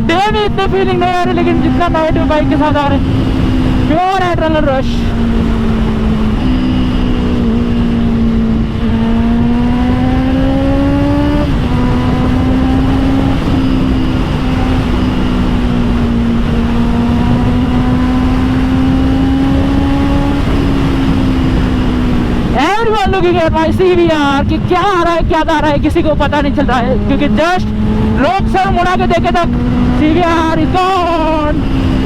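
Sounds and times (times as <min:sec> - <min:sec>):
motorcycle engine at high revs: 0:00.0 - 0:32.0
wind rush: 0:00.0 - 0:32.0.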